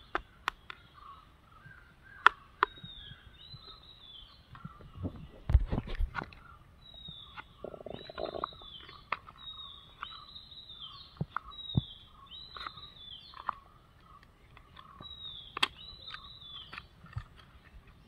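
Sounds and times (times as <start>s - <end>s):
bird calling: 0.0s - 18.0s.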